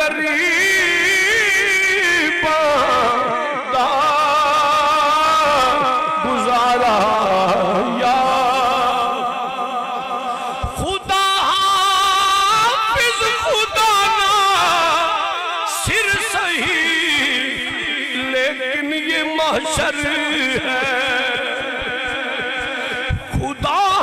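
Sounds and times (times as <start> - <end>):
man singing into a microphone: 0.0 - 24.0.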